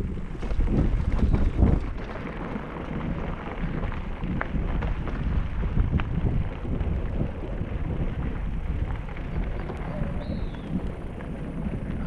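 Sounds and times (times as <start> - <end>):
steady low rumble: 0.0 - 12.0
wind buffeting microphone: 0.0 - 12.0.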